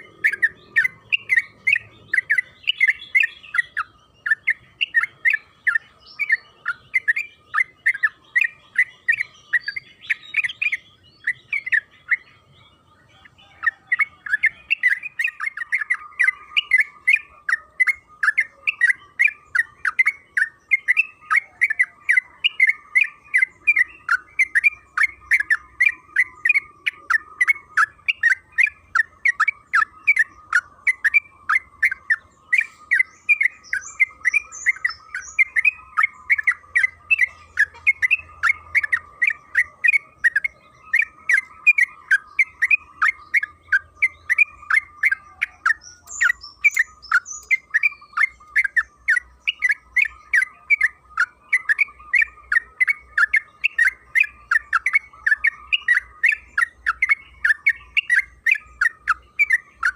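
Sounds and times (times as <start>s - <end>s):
bulbul chattering song: 0.0s - 59.9s.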